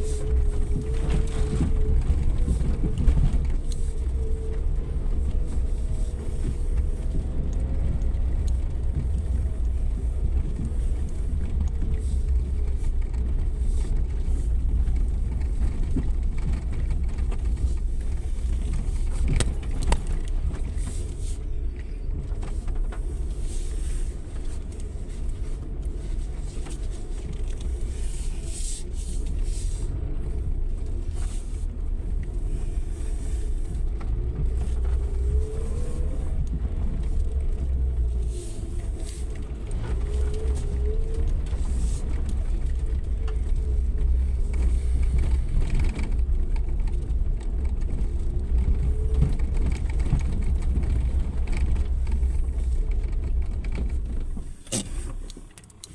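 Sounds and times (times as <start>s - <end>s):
off-road vehicle engine rumble: 0.0s - 55.9s.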